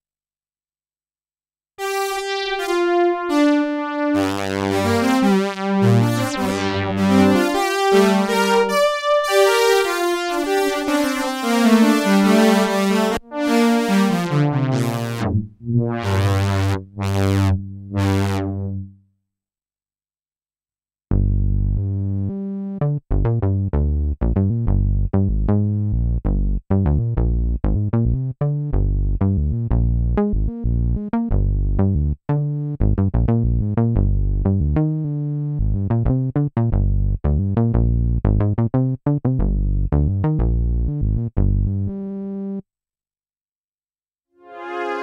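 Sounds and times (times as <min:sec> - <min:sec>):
synthesizer punchy bass notes: 0:01.8 - 0:18.9, 0:21.1 - 0:42.6.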